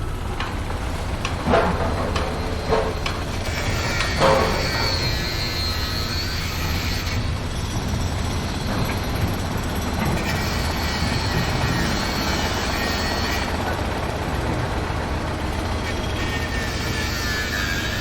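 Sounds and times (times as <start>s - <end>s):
machinery engine rumble: 0.0s - 18.0s.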